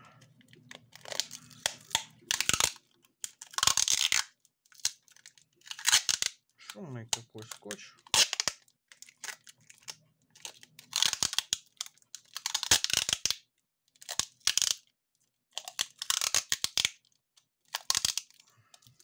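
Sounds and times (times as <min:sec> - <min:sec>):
packing tape peeling: 0:00.5 - 0:06.4, 0:07.2 - 0:13.4, 0:14.0 - 0:14.8, 0:15.6 - 0:17.0, 0:17.7 - 0:19.0.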